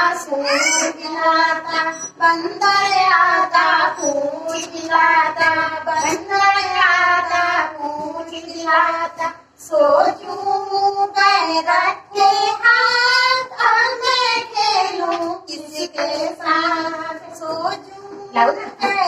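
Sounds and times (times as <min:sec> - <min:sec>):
child singing: 0:00.0 - 0:19.0.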